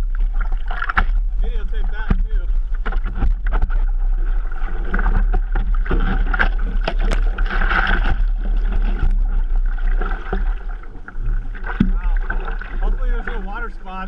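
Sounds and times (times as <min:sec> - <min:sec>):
water splashing against surfboard: 0:00.0 - 0:14.0.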